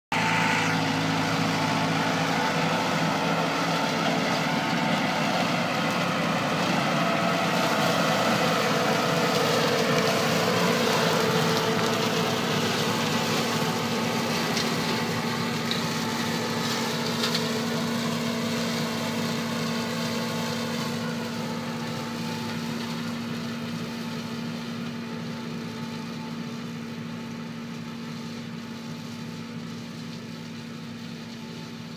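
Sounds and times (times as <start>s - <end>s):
tractor engine running under load: 0.1s - 31.9s
flail mulcher cutting grass: 0.2s - 31.9s.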